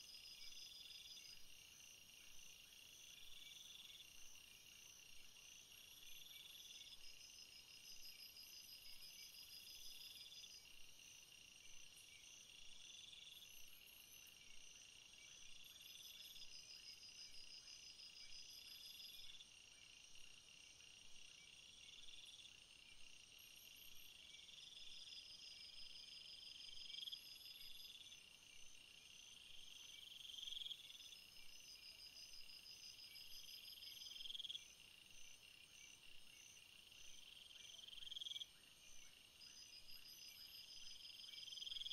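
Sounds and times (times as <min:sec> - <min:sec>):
insect trill: 0:00.0 - 0:41.9
insects chirping: 0:00.0 - 0:41.9.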